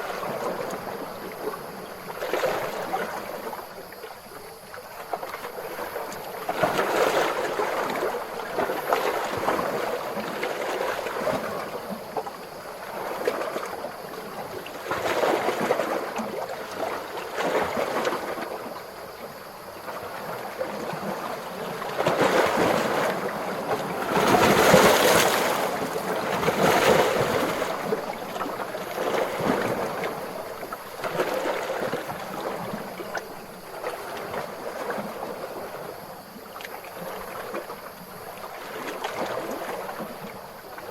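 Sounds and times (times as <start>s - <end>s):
small ocean waves lapping: 0.0s - 40.9s.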